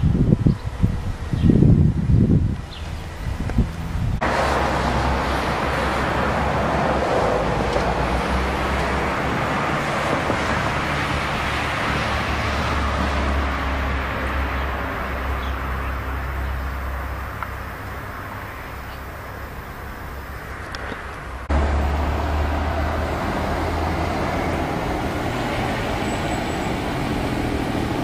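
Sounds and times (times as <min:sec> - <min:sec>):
road traffic rumble and hiss: 0:00.0 - 0:28.0.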